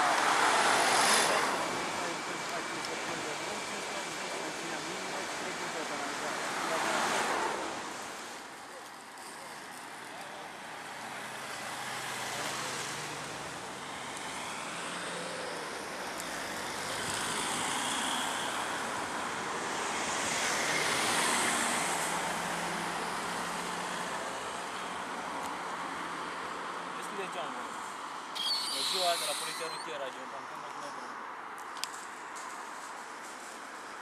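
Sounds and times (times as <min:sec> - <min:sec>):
cars driving past: 0:00.0 - 0:08.5, 0:10.5 - 0:30.0.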